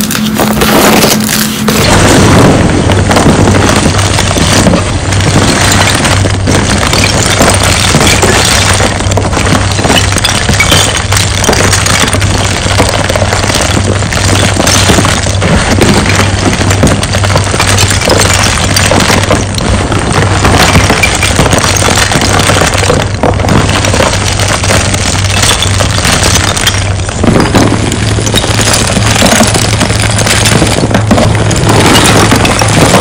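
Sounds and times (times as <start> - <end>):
crushed chalk crunching: 0.0 - 33.0.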